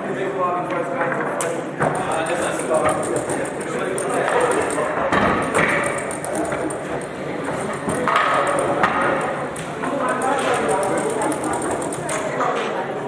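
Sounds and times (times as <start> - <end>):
foosball knocks and clacks: 1.8 - 12.7.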